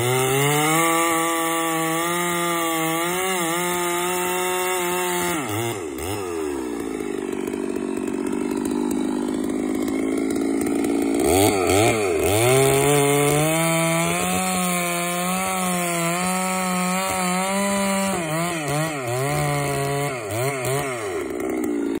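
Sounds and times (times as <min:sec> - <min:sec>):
chainsaw cutting log: 0:00.0 - 0:22.0.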